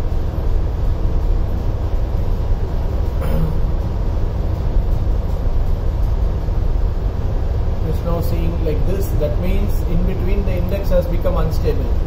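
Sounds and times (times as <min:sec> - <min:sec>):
engine room machinery rumble: 0:00.0 - 0:12.0.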